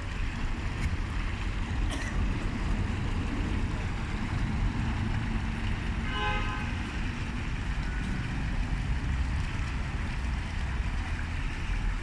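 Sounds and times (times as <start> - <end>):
fountain water rushing: 0.0 - 12.0
wind rumble on microphone: 0.0 - 12.0.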